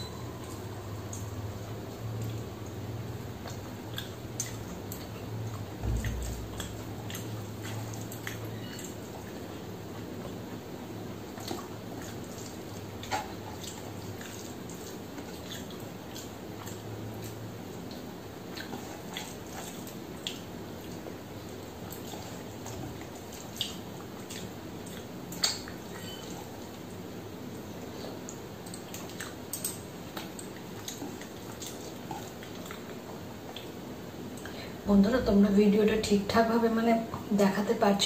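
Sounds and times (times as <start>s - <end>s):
low steady hum: 0.0s - 38.0s
wet chewing and smacking: 0.4s - 34.6s.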